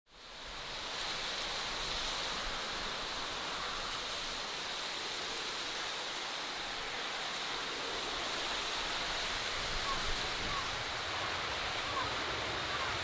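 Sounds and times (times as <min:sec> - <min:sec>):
rushing outdoor nature ambience: 0:00.1 - 0:13.0.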